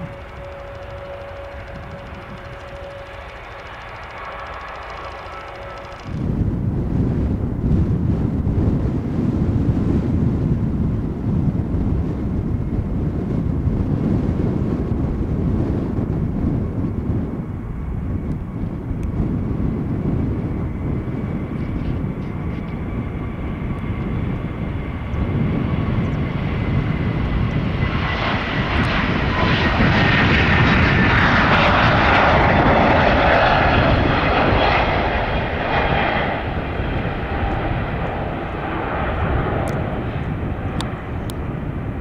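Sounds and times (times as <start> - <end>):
jet taking off: 0.0 - 42.0.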